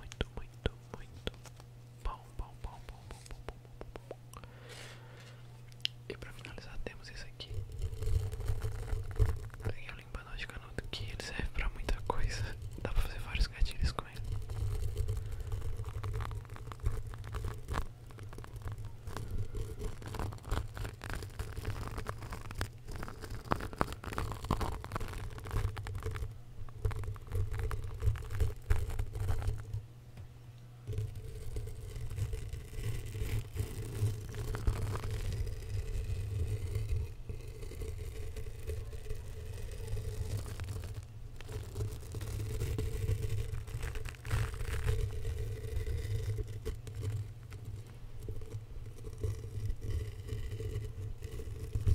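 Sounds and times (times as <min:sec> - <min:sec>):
brush scraping on microphone: 0:02.4 - 0:03.5, 0:06.1 - 0:29.8, 0:30.9 - 0:51.9.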